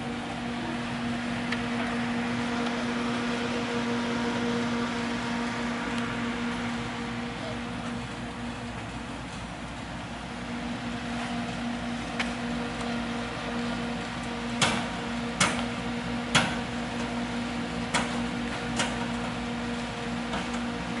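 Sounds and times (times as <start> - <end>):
furnace fan hum: 0.0 - 21.0.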